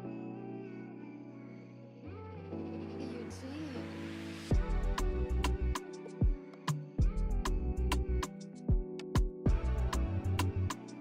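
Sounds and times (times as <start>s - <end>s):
mellow background music: 0.0s - 11.0s.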